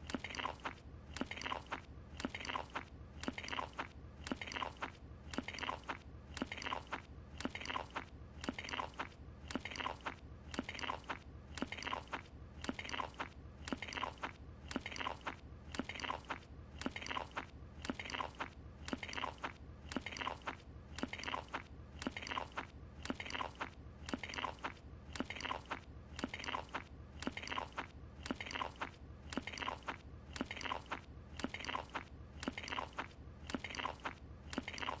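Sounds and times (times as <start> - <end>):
cartoon chewing and crunching: 0.0 - 35.0.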